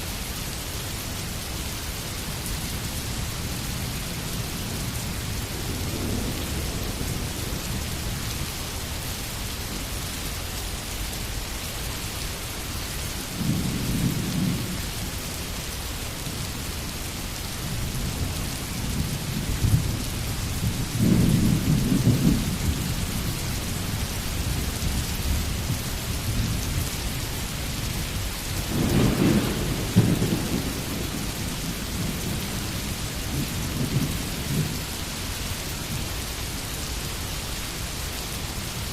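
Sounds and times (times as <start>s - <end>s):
steady rainfall hissing: 0.0s - 38.9s.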